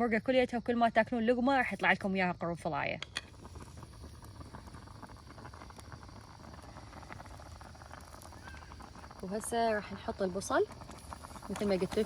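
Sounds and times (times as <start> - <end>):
stew bubbling in a pot: 1.4 - 12.0.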